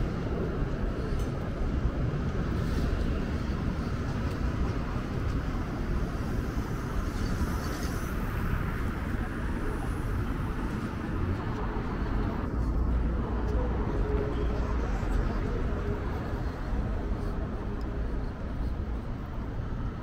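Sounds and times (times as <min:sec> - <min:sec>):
traffic rumble: 0:00.0 - 0:20.0
urban hum: 0:00.0 - 0:20.0.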